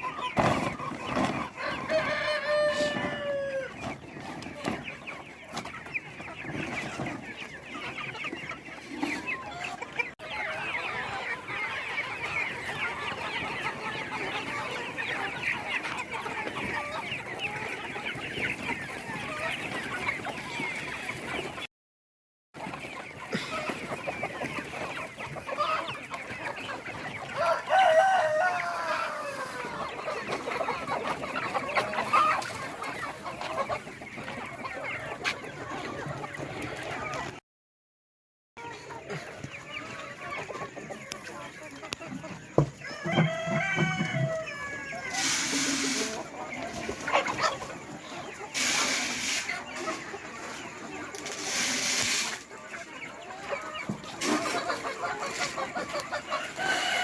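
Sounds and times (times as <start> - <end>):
chickens clucking: 0.0 - 21.7, 22.6 - 37.4, 38.6 - 57.0
drawn-out chicken call: 0.0 - 21.7, 22.6 - 37.4, 38.6 - 57.0.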